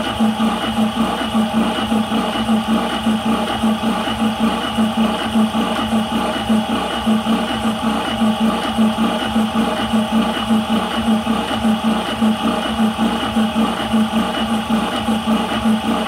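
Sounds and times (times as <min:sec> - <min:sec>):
air compressor pulsing: 0:00.0 - 0:16.0.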